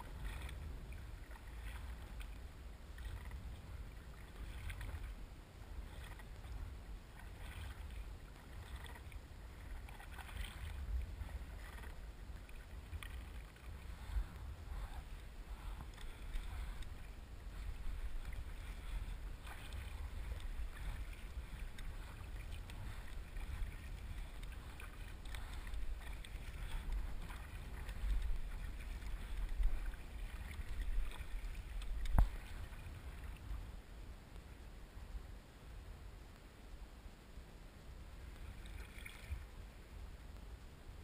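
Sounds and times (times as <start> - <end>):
paddles splashing in water: 0.0 - 33.8, 38.2 - 39.6
wind on microphone: 0.0 - 35.3.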